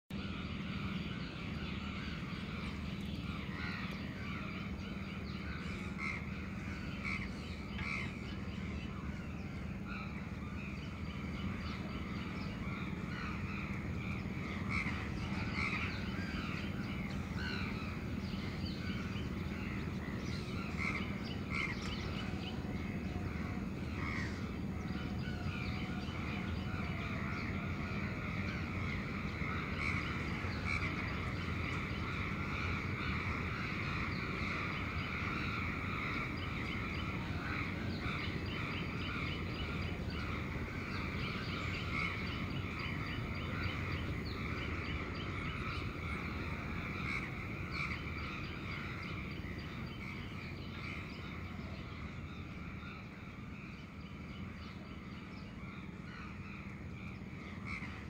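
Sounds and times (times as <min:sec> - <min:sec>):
low city hum: 0:00.1 - 0:58.0.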